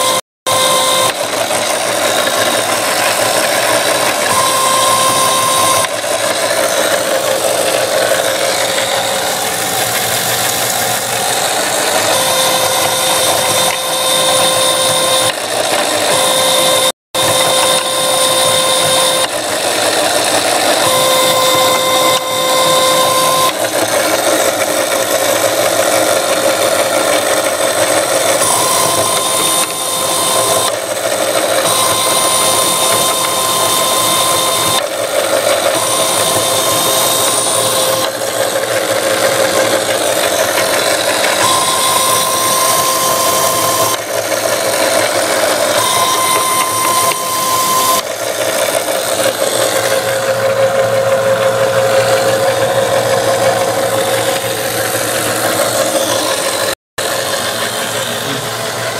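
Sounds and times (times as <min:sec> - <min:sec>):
motor mechanical whir with whine: 0:00.0 - 0:58.9.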